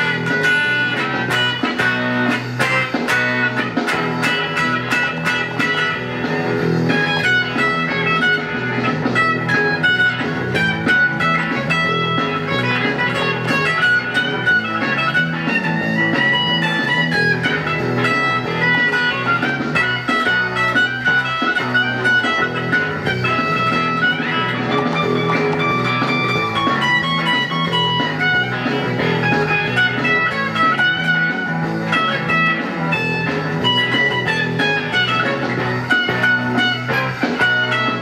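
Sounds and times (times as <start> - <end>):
backing track bass line: 0.0 - 38.0
electric guitar lead: 0.0 - 38.0.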